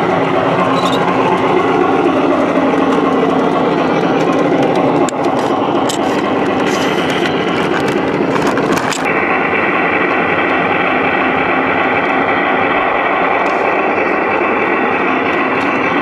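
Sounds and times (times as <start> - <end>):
train cars rolling rumble: 0.0 - 16.0
wheels clicking on rail joints: 0.0 - 16.0.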